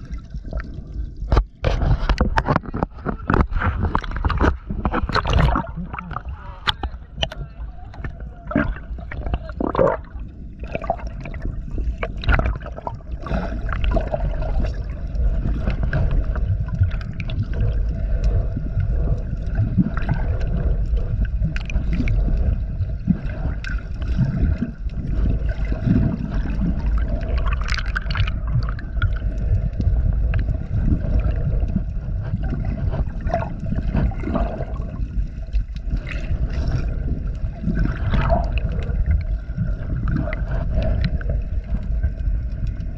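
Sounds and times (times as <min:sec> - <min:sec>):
underwater rumble of water: 0:00.0 - 0:42.9
water gurgling: 0:00.0 - 0:42.9.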